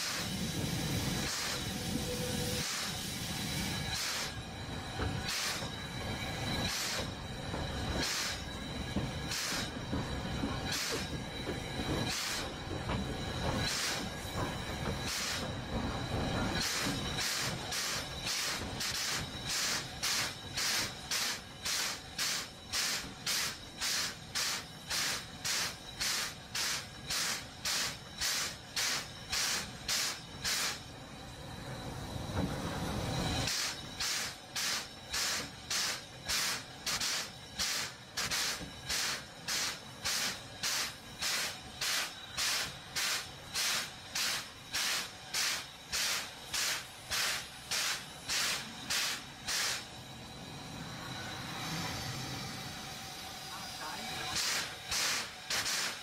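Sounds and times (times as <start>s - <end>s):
steam locomotive puffing: 0.0s - 31.0s, 32.3s - 56.0s
steam hissing: 0.0s - 56.0s.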